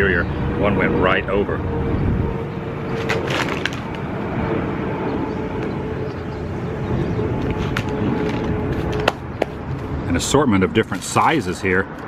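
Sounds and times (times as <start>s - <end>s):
distant engine rumble: 0.0s - 12.0s.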